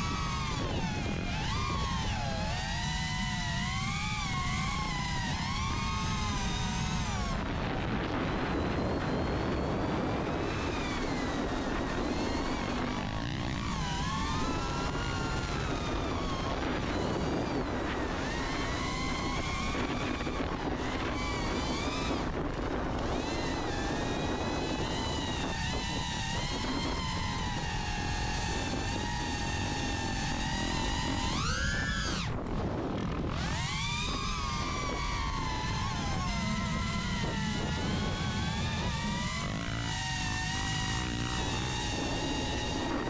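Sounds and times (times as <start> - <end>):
dirt bike engines running: 0.0 - 43.0
drone propellers whining: 0.0 - 43.0.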